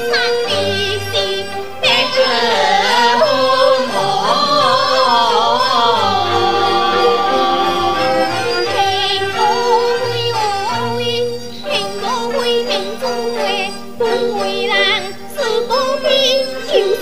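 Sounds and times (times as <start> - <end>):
ensemble accompaniment: 0.0 - 15.0
woman singing opera aria: 0.0 - 17.0.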